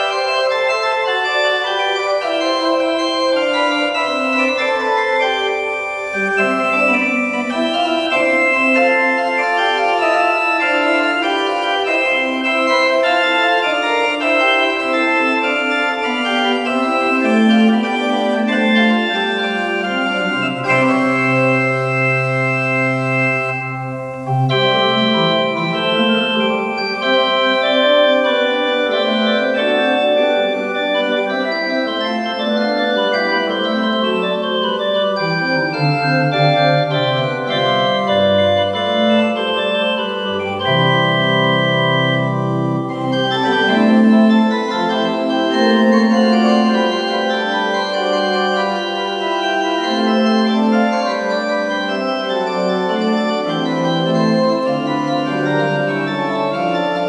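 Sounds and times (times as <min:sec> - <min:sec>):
church organ playing: 0:00.0 - 0:57.0.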